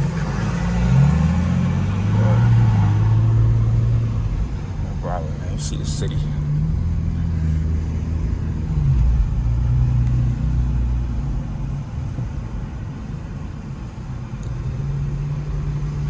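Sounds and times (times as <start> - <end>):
car exhaust droning: 0.0 - 16.0.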